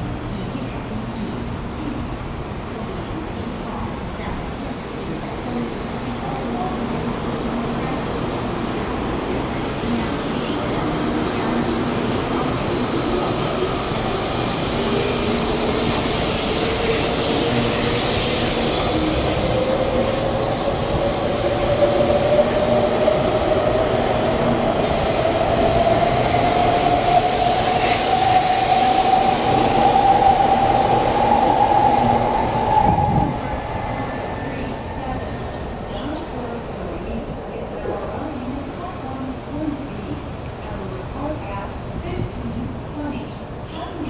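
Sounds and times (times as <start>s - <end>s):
train running noise: 0.0s - 44.0s.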